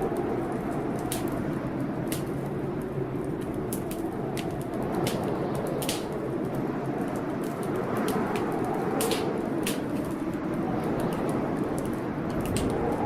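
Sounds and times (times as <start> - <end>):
storm rushing: 0.0 - 13.0
wood fire crackling: 0.0 - 13.0.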